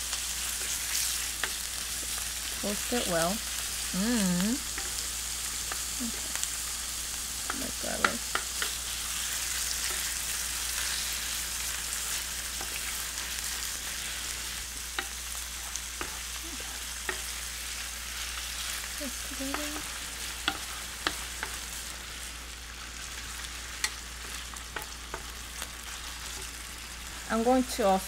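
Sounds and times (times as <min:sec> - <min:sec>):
bacon sizzling in a skillet: 0:00.0 - 0:28.0.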